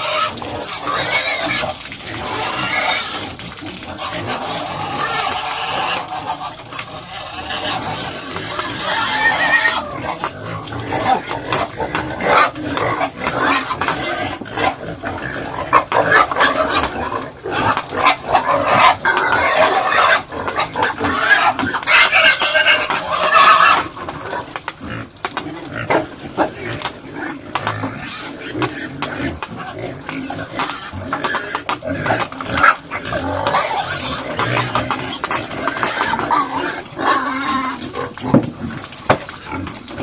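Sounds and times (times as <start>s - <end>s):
pigs grunting and squealing: 0.0s - 40.0s.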